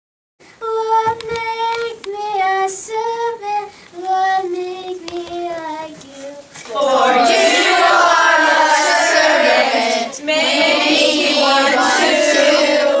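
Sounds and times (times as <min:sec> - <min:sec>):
children singing: 0:00.7 - 0:13.0.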